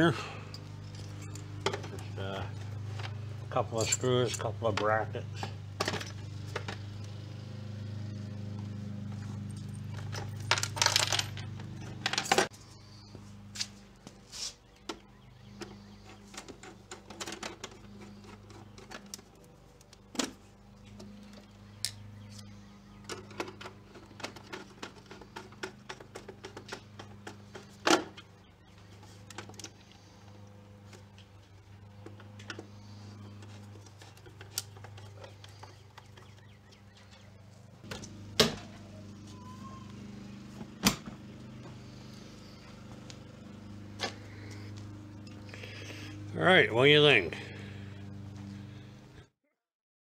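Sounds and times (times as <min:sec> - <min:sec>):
steady low hum: 0:00.0 - 0:49.3.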